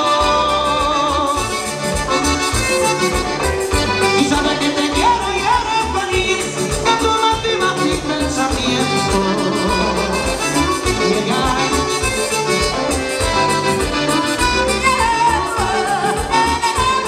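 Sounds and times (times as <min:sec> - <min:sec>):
accordion-led latin dance music: 0:00.0 - 0:17.0.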